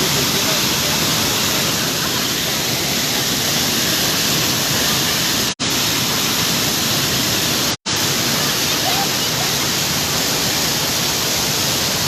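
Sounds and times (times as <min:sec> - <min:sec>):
waterfall pouring: 0:00.0 - 0:12.0.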